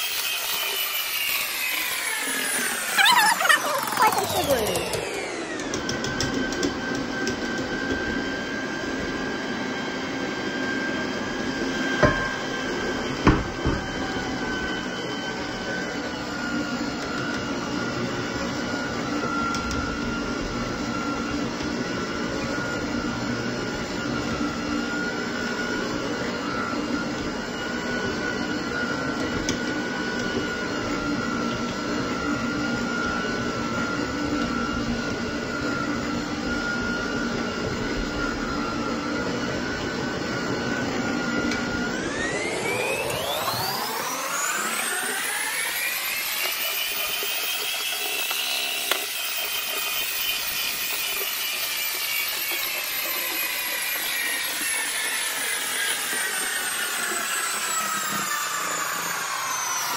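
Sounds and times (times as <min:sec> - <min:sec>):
electric hand mixer whining: 0:00.0 - 0:59.9.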